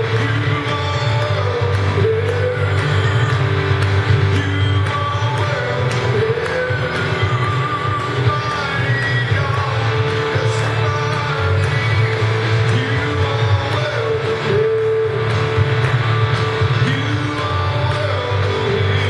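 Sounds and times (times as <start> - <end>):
band playing worship music: 0.0 - 19.0
bass line: 0.0 - 19.0
guitar: 0.0 - 19.0.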